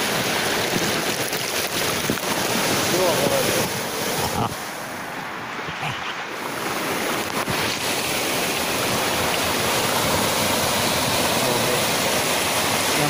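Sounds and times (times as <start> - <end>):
waves washing over shore: 0.0 - 13.0.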